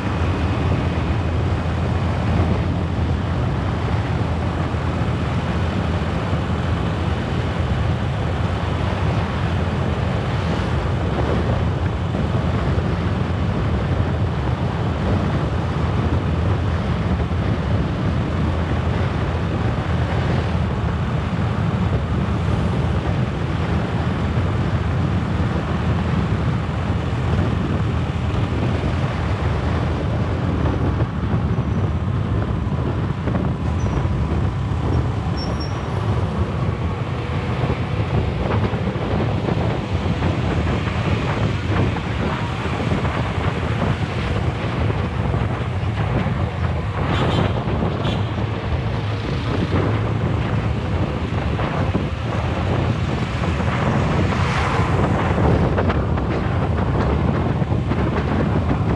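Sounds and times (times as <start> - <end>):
road noise: 0.0 - 58.9
wind buffeting microphone: 0.0 - 58.9.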